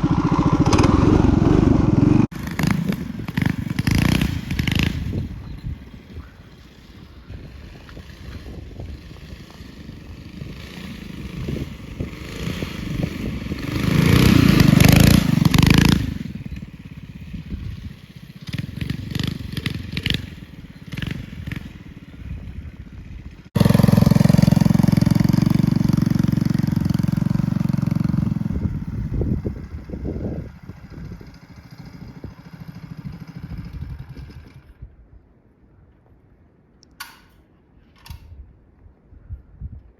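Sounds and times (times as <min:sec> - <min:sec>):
minibike engine running: 0:00.0 - 0:34.8.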